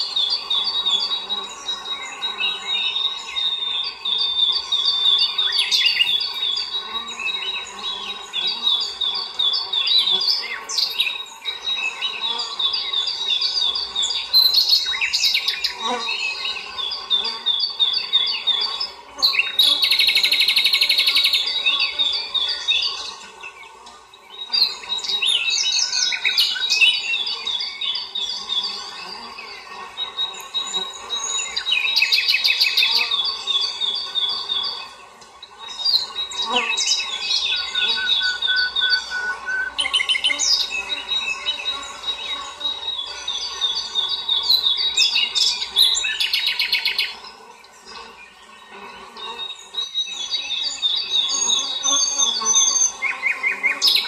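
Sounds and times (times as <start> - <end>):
birds chirping: 0.0 - 54.0
fast buzzy bird trill: 0.0 - 54.0.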